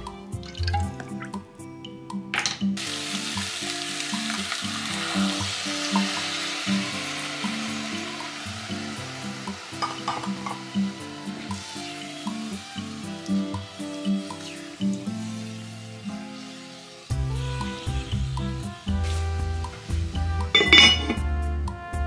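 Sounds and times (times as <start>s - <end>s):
background music: 0.0s - 22.0s
food sizzling in a hot pan: 2.8s - 21.3s.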